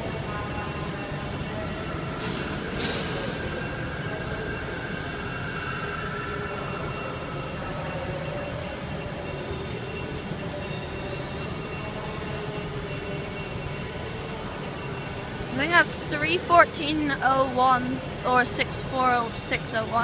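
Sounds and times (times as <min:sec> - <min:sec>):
electric train rumbling with whine: 0:00.0 - 0:20.0.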